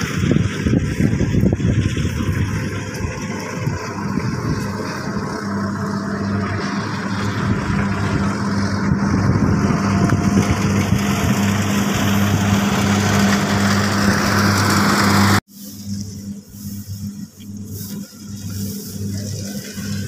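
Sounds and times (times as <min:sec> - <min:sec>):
combine harvester engine hum: 0:00.0 - 0:20.0
threshing machinery clattering: 0:00.0 - 0:20.0.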